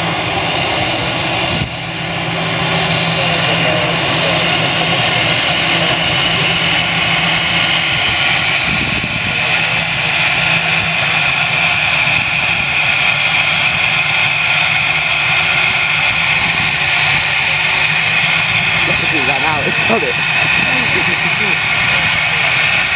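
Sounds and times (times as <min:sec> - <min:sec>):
jet engines whining: 0:00.0 - 0:22.9.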